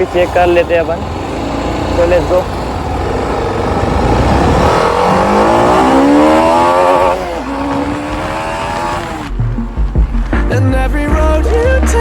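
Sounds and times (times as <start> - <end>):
motorcycle engine accelerating: 0.0 - 10.5.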